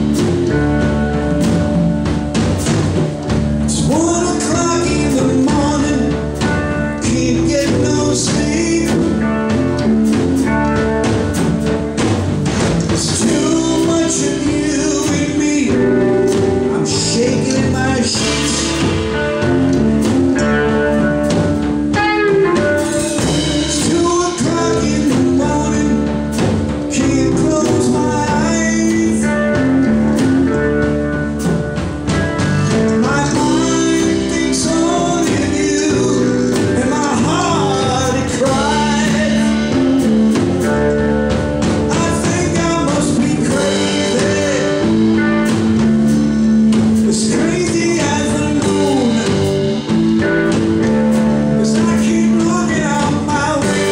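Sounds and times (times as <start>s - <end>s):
live blues band playing: 0.0s - 53.9s.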